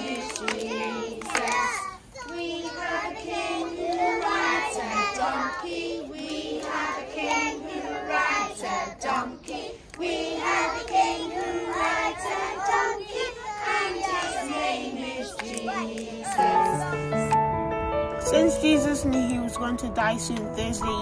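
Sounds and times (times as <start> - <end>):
children singing: 0.0 - 17.3.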